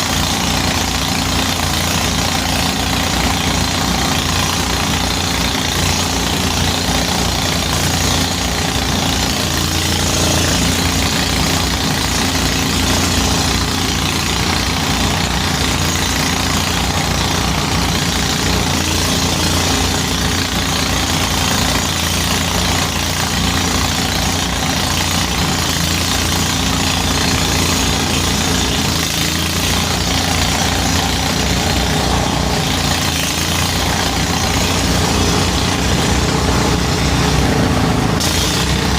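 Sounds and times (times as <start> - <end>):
threshing machine engine running: 0.0 - 38.9.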